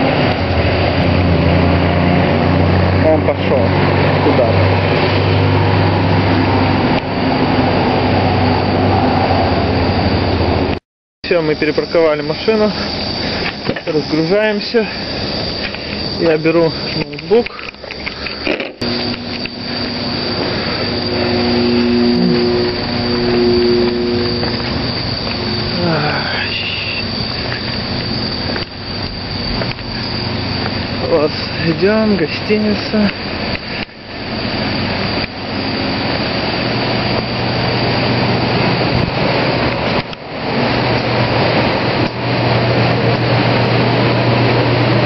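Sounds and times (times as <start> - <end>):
crickets chirping: 0.0 - 45.0
low machine hum: 0.0 - 45.0
mechanical rushing noise: 0.0 - 45.0.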